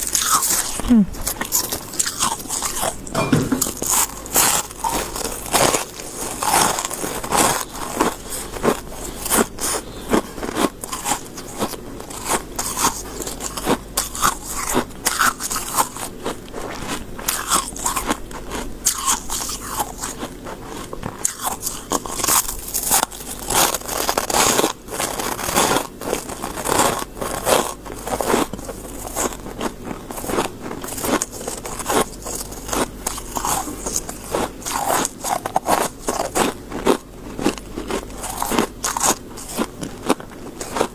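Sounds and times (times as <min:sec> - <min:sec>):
chewing crunchy frost: 0:00.0 - 0:03.2, 0:03.8 - 0:40.9.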